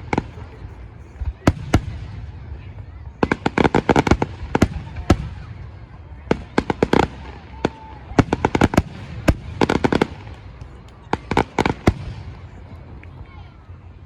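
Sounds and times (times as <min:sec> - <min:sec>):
fireworks cracking and banging: 0:00.0 - 0:13.2.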